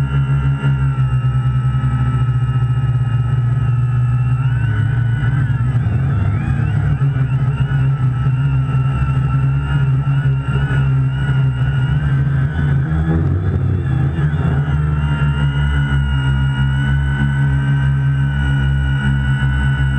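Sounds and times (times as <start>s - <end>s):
drone propellers whining: 0.0s - 19.9s
heavy low rumble: 0.0s - 19.9s.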